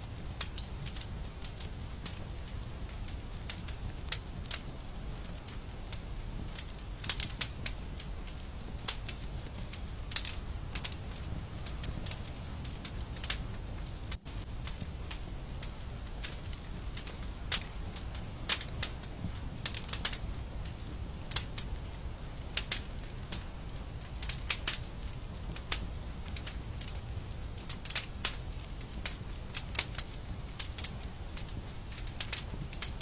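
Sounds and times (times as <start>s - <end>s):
fire crackling and popping: 0.0s - 33.0s
low fire rumble: 0.0s - 33.0s.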